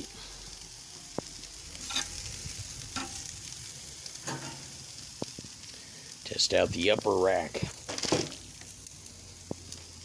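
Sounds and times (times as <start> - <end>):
steaks sizzling on grill: 0.0 - 10.0.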